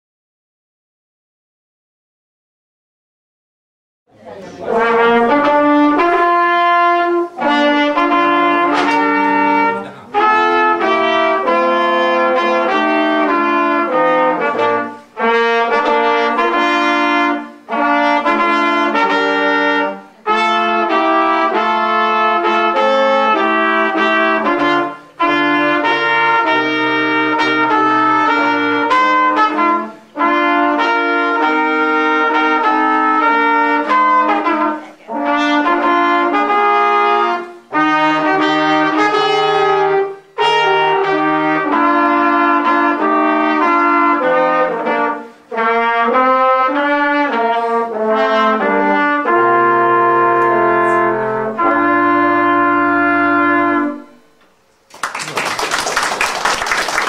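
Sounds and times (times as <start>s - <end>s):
brass trio playing melody: 4.6s - 54.6s.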